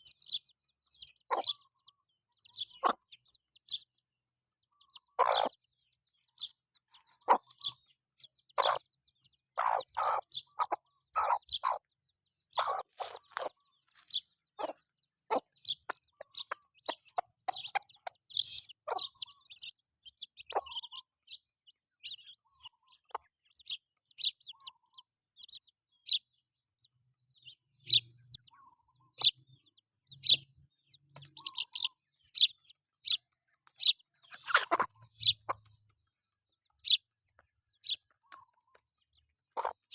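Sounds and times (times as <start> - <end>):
chickens clucking: 0.0 - 4.0, 4.6 - 39.9
chickens chirping: 0.0 - 39.9.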